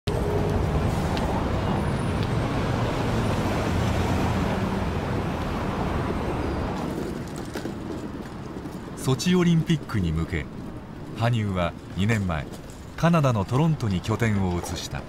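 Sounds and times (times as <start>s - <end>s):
cars passing: 0.1s - 15.0s.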